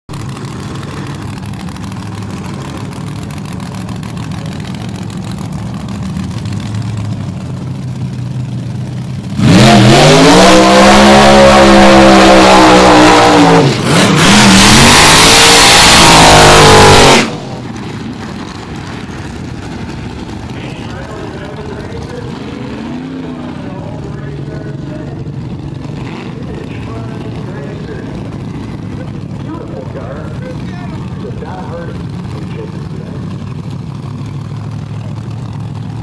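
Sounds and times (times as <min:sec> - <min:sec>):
drag racing car engine: 0:00.1 - 0:36.0.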